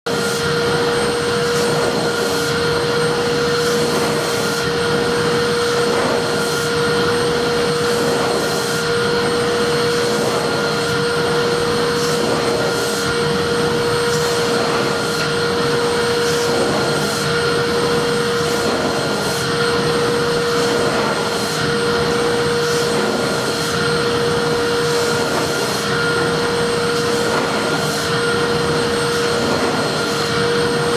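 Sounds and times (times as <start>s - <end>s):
vacuum cleaner motor whining: 0.1s - 30.9s.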